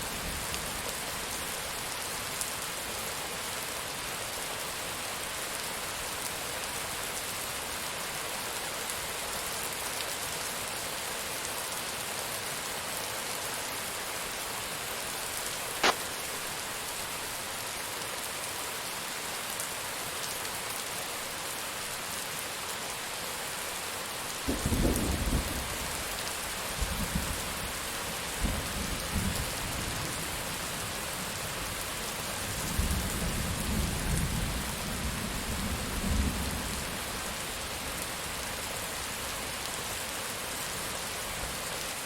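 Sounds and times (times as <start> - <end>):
rain pattering on surfaces: 0.0 - 42.0.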